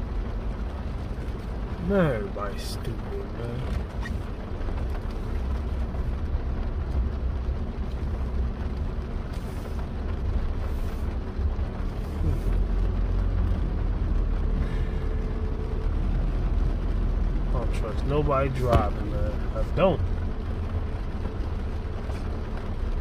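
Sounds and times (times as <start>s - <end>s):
heavy rain on car roof: 0.0s - 23.0s
low car rumble: 0.0s - 23.0s.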